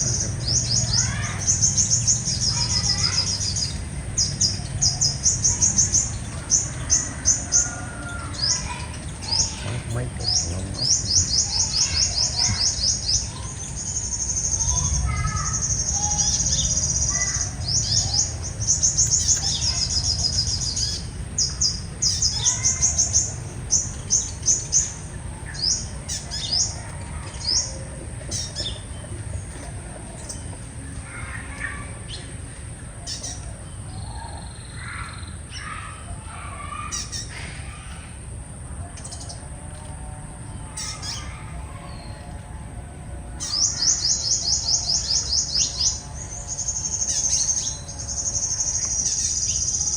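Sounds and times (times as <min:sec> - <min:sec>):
birds trilling chirps: 0:00.0 - 0:49.9
high insect hum: 0:00.0 - 0:49.9.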